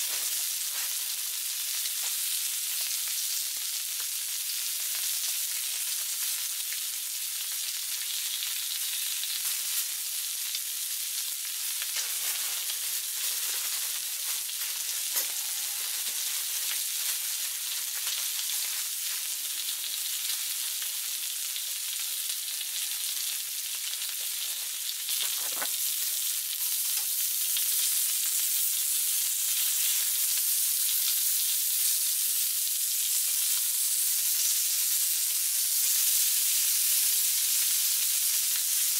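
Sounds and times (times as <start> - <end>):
meat sizzling on a griddle: 0.0 - 38.9.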